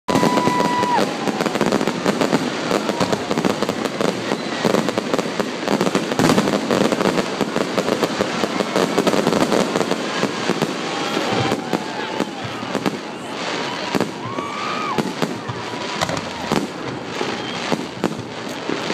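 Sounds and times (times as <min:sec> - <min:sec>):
fireworks bursting and crackling: 0:00.1 - 0:18.9.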